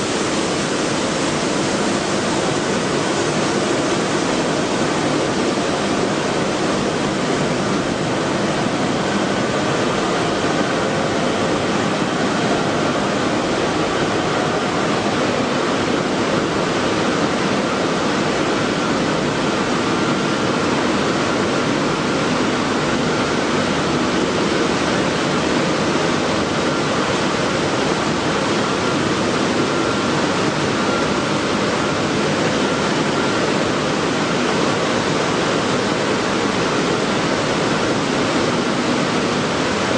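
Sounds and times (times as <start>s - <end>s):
mill machinery running: 0.0s - 39.9s.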